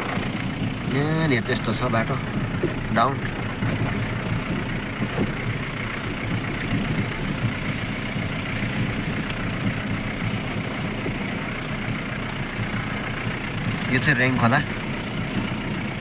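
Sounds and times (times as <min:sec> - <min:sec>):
road noise on dirt road: 0:00.0 - 0:16.0
vehicle engine rumbling: 0:00.0 - 0:16.0.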